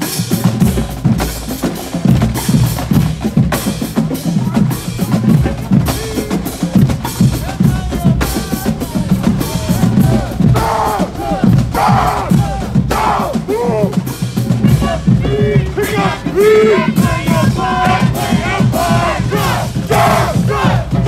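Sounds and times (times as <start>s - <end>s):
snare and bass drums: 0.0s - 21.0s.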